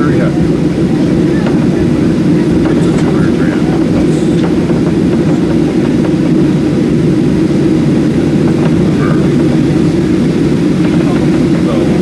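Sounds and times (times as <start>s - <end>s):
airliner cabin drone: 0.0s - 12.0s.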